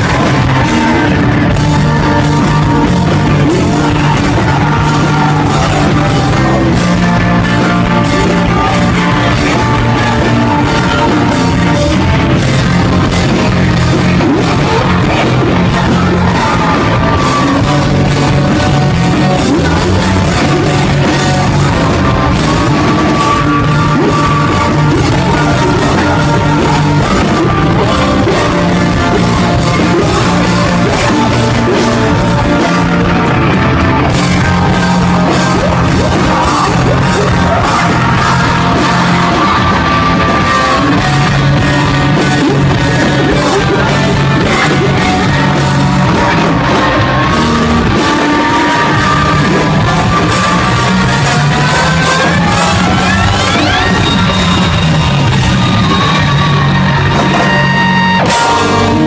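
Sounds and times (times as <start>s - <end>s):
rock band playing: 0.0s - 59.0s
singing and yelled vocals: 0.0s - 59.0s.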